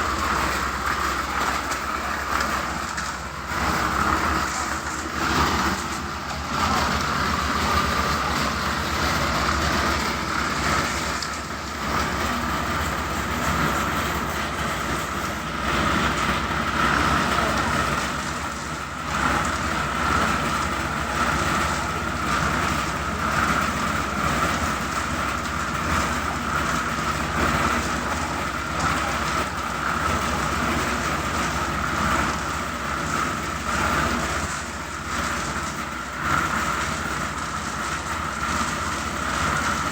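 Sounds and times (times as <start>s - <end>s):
concrete machinery whining and rattling: 0.0s - 39.9s.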